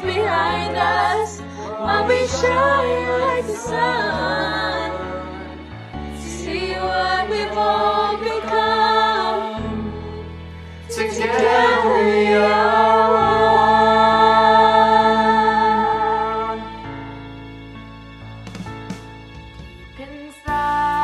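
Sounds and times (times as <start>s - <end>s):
young choir singing: 0.0s - 17.2s.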